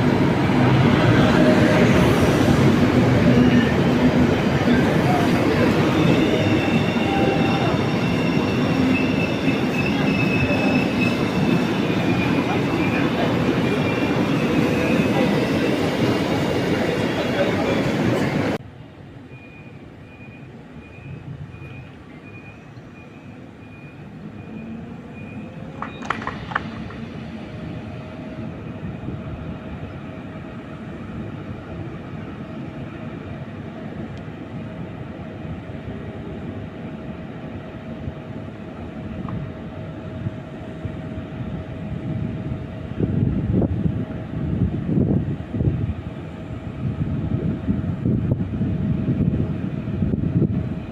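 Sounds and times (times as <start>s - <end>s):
train rumbling: 0.0s - 50.9s.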